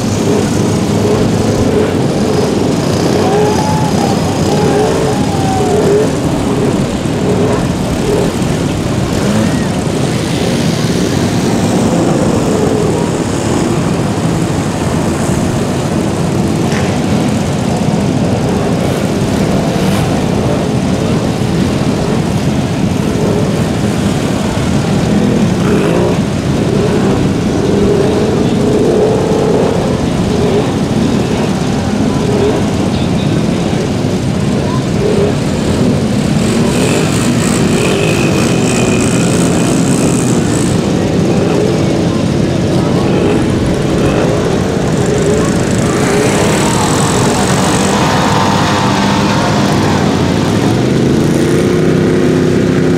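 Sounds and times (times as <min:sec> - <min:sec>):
quad engines revving hard: 0:00.0 - 0:52.9
wheels churning mud and water: 0:00.0 - 0:52.9.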